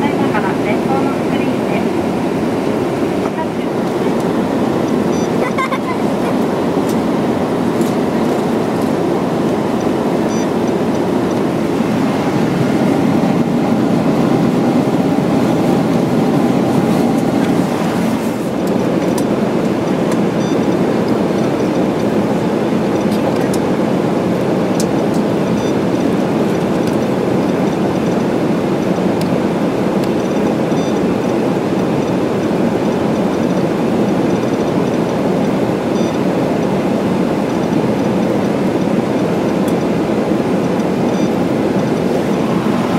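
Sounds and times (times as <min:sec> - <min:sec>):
jet engine and airflow rumble: 0:00.0 - 0:42.9.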